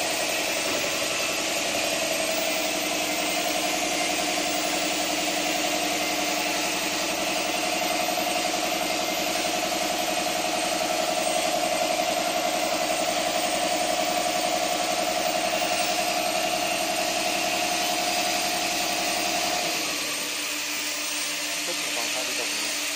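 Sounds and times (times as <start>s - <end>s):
hydraulic pump hum: 0.0s - 22.9s.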